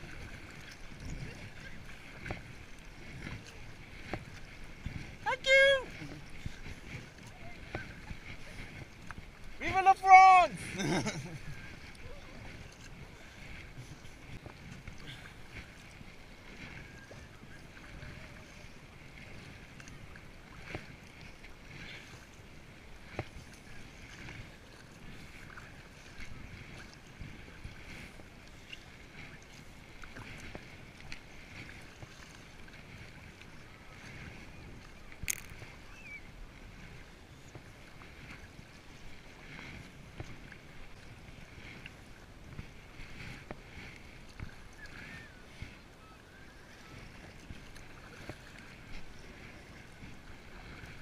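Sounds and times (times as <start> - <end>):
wind rumble on microphone: 0.0 - 9.7, 10.6 - 51.0
paddle strokes splashing: 0.0 - 51.0
water sloshing around kayak: 0.0 - 51.0.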